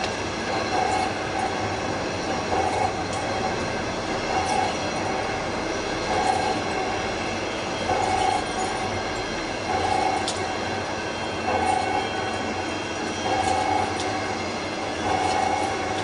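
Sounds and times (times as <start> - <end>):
lathe machine noise: 0.0 - 16.0.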